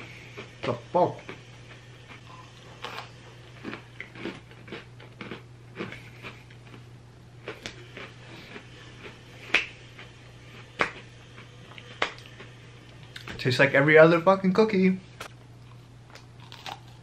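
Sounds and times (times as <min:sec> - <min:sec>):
person chewing cookie: 0:00.0 - 0:13.3, 0:15.2 - 0:17.0
steady low hum: 0:00.0 - 0:17.0.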